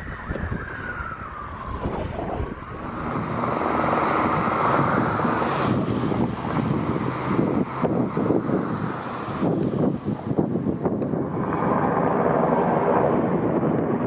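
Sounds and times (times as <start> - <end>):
fire truck siren wailing: 0.0 - 14.0
wind rumble on microphone: 0.0 - 14.0.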